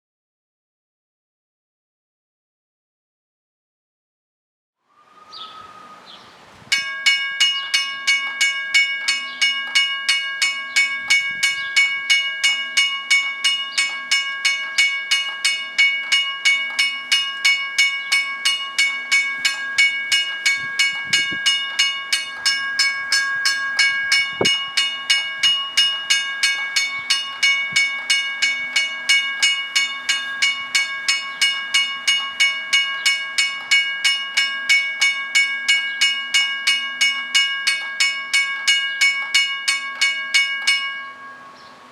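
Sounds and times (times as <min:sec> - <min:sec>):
railroad crossing bell ringing: 0:06.7 - 0:41.9.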